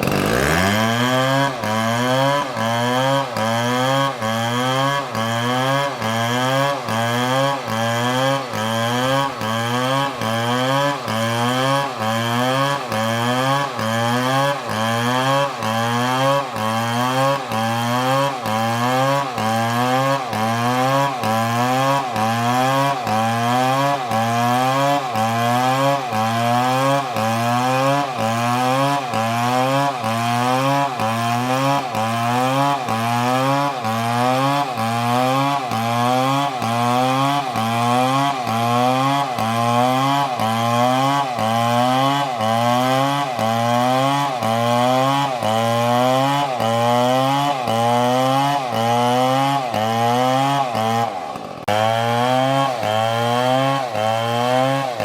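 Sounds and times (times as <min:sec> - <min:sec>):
chainsaw cutting: 0:00.0 - 0:55.0.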